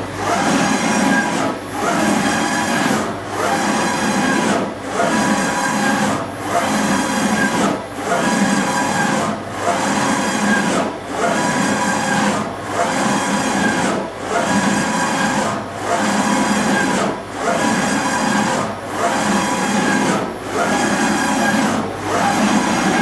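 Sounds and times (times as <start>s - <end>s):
surface grinder running: 0.2s - 23.0s.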